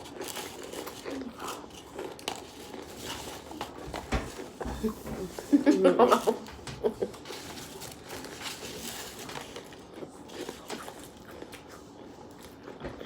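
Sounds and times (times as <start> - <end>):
people crunching chips: 0.0 - 4.6, 5.3 - 13.0.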